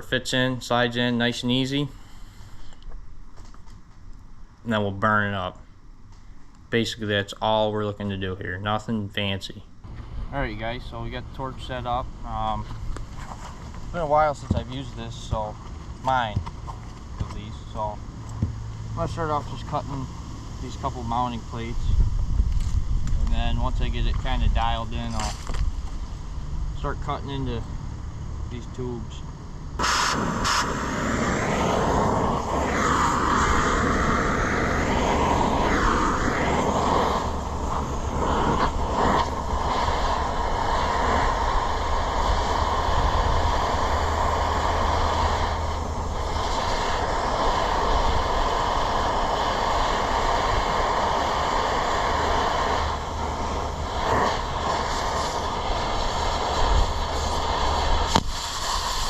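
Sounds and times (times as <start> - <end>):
cutting torch hissing: 9.9 - 59.0.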